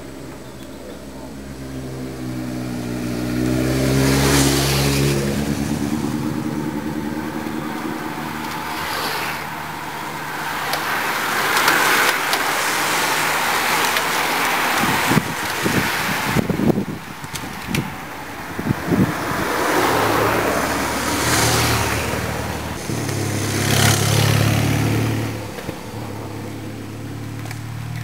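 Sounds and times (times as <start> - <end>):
motorcycle engine passing: 0.0 - 28.0
bicycle tyres whirring past: 1.4 - 28.0.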